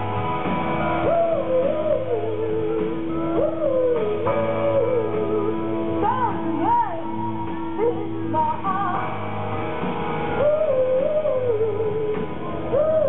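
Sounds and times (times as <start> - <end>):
electric guitar: 0.0 - 13.0.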